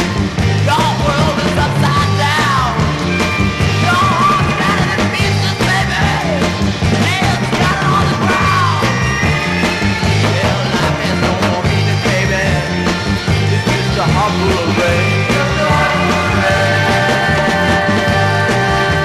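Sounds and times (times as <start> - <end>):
psychedelic rock band: 0.0 - 19.0
sliding lead melody: 0.0 - 19.0.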